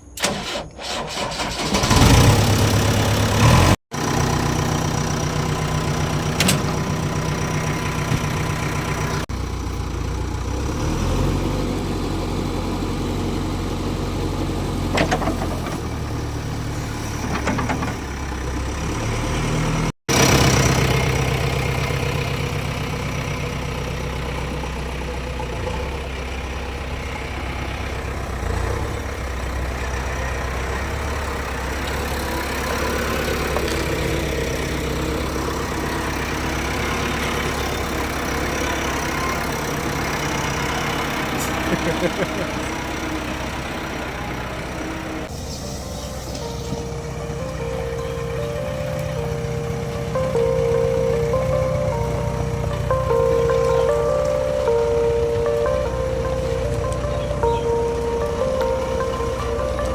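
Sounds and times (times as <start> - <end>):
diesel engine starting and running: 0.0 - 59.9.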